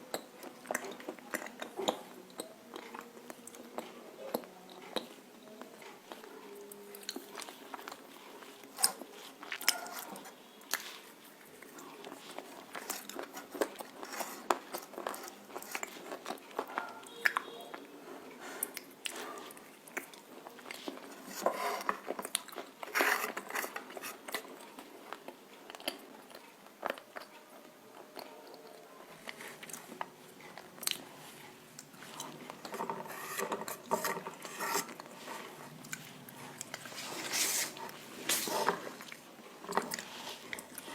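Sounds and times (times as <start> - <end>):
crunchy chewing: 0.0 - 40.9.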